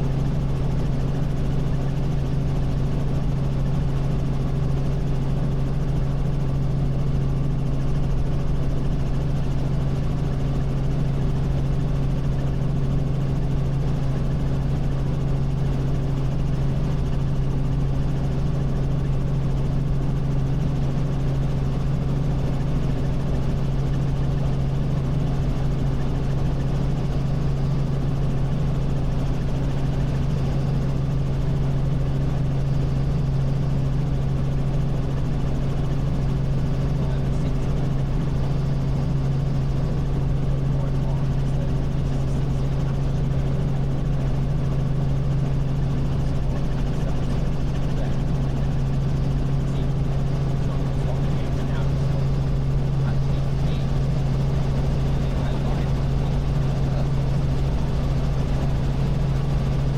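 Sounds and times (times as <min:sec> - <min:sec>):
helicopter engine and rotors drone: 0:00.0 - 0:59.9.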